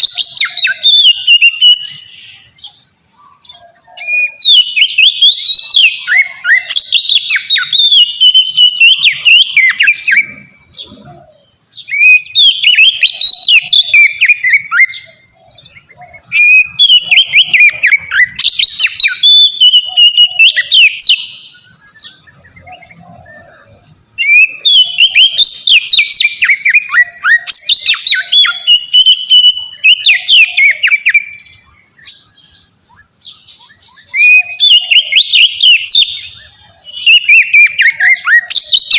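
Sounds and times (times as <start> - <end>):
bird singing whistles: 0.0 - 38.9.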